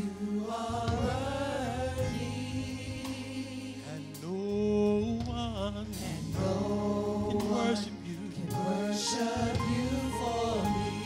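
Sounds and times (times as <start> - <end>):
group singing gospel song: 0.0 - 11.0.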